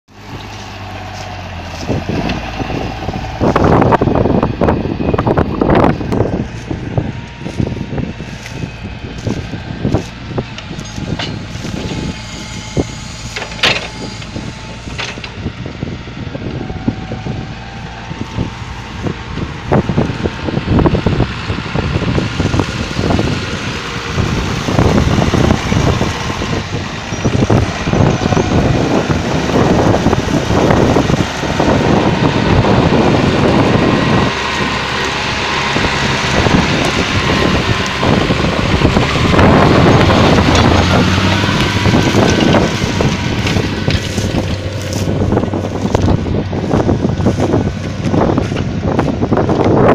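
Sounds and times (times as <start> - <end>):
tractor diesel engine under load: 0.0 - 49.9
rattling and clatter: 0.4 - 15.4, 19.4 - 49.9.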